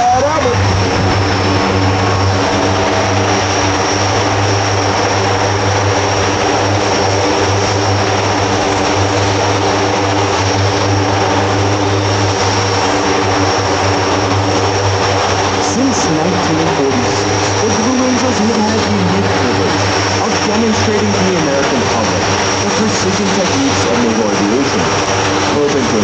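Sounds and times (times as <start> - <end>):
high engine whine: 0.0 - 26.0
turboprop engines humming: 0.0 - 26.0.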